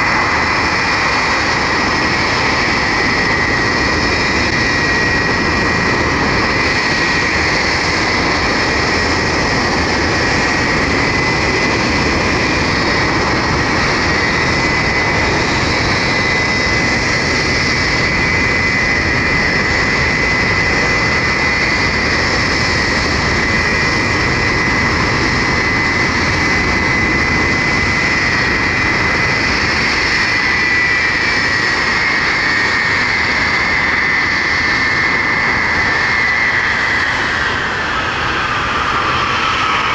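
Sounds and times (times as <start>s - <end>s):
high engine whine: 0.0s - 39.9s
jet engines roaring: 0.0s - 39.9s.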